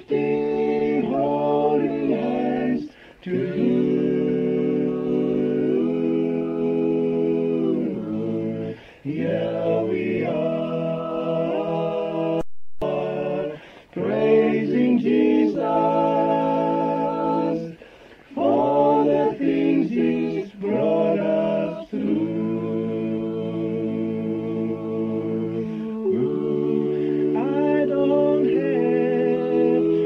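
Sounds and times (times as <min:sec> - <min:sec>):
male vocal group singing a cappella: 0:00.0 - 0:30.0.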